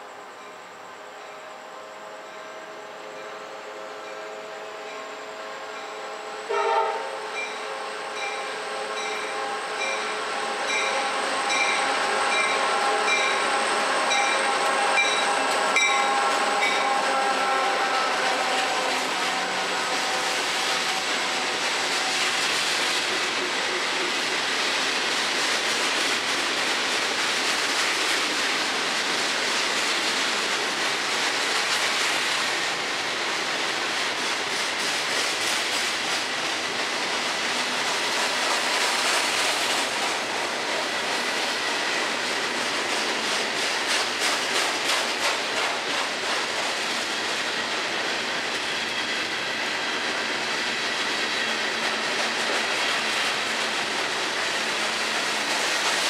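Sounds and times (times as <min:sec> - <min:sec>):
steel wheels on rail: 0:00.0 - 0:56.0
train wheels clicking: 0:06.5 - 0:56.0.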